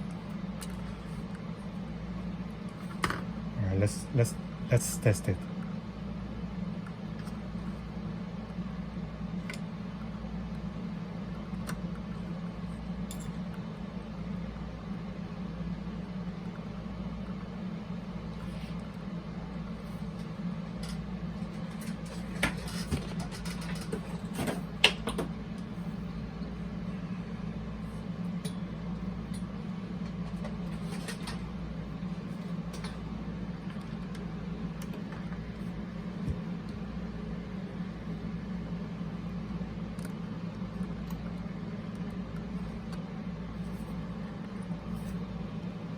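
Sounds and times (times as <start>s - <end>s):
cassette motor hum: 0.0s - 45.9s.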